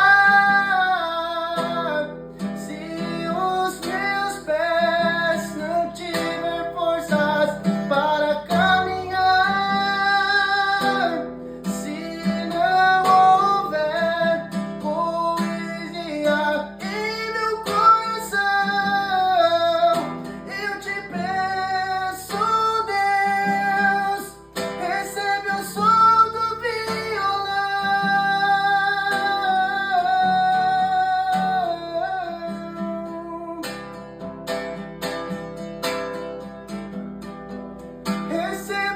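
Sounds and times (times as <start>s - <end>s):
acoustic guitar hymn melody: 0.0s - 38.9s.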